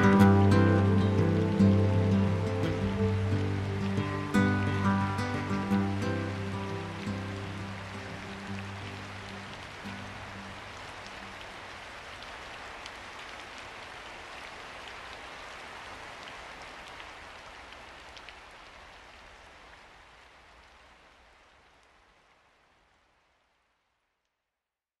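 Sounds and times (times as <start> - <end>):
steady rain hiss: 0.0 - 24.2.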